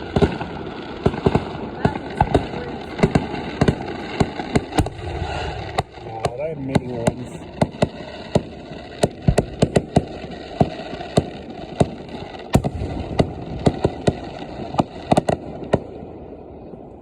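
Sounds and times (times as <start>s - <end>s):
fireworks banging: 0.0s - 16.8s.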